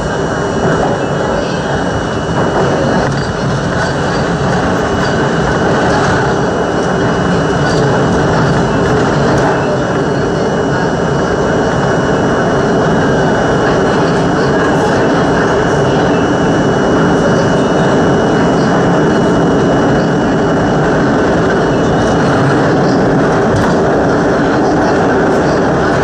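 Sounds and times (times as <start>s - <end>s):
subway train wheels roaring: 0.0s - 26.0s.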